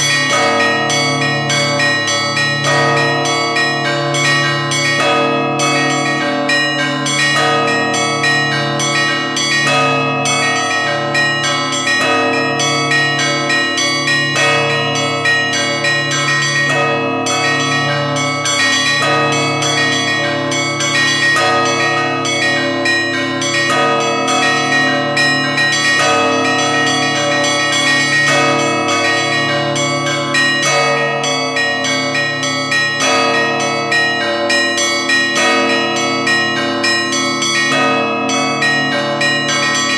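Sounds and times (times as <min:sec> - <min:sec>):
deep church bells: 0:00.0 - 0:39.9
small church bells struck rapidly: 0:00.0 - 0:39.9.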